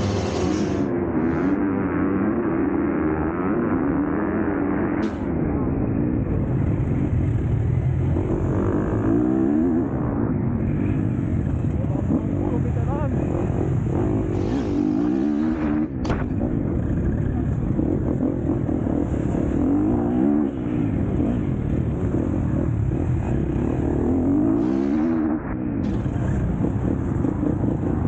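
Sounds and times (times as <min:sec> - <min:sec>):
motocross bike engine running hard: 0:00.0 - 0:28.0.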